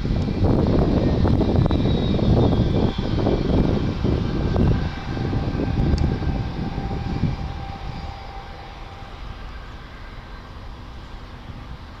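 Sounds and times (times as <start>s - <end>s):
jet engines rumbling and whining: 0.0s - 12.0s
low rush: 0.0s - 12.0s.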